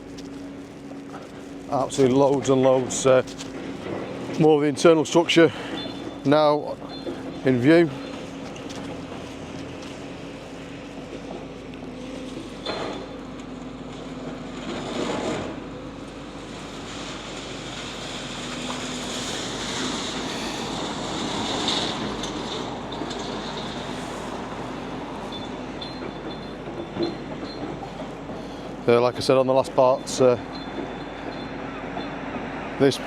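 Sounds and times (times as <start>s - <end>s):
engine hum of vehicles: 0.0s - 33.0s
traffic passing: 0.0s - 33.0s.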